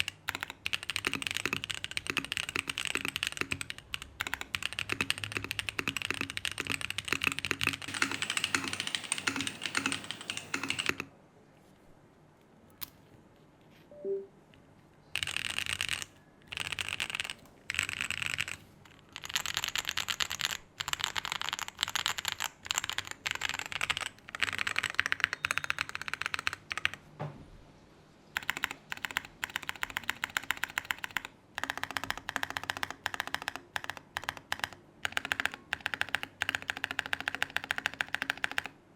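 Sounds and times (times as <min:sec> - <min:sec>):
mechanical keyboard typing: 0:00.0 - 0:11.1, 0:15.1 - 0:27.1, 0:28.4 - 0:38.8.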